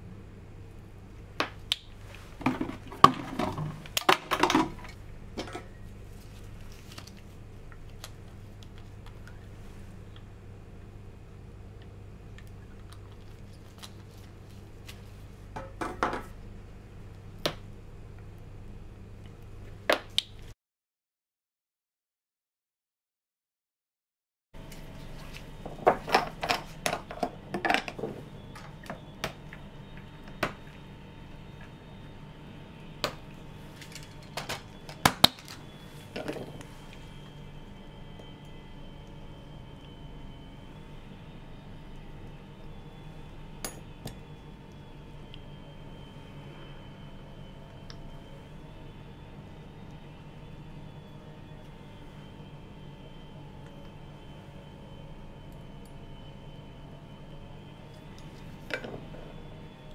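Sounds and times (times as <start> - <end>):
low room hum: 0.0 - 20.6, 24.6 - 59.9.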